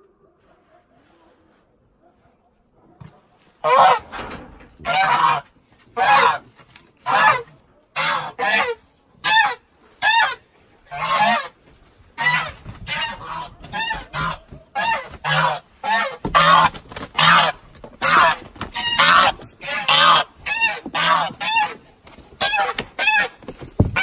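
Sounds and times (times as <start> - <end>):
geese honking: 3.6 - 24.0.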